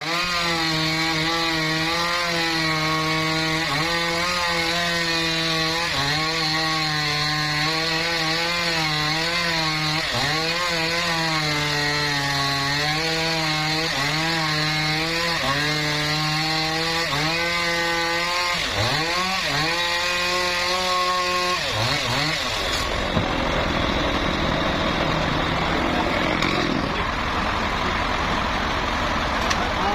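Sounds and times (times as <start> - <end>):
sawmill saw cutting wood: 0.0 - 29.9.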